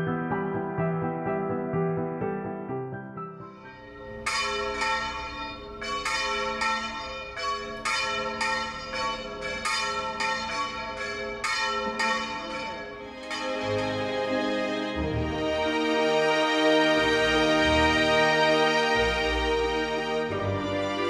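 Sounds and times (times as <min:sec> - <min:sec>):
church bells pealing: 0:03.5 - 0:21.0.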